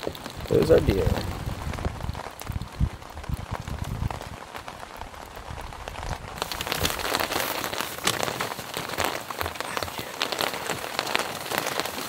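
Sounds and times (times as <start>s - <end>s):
rain pattering on tent fabric: 0.0s - 12.0s.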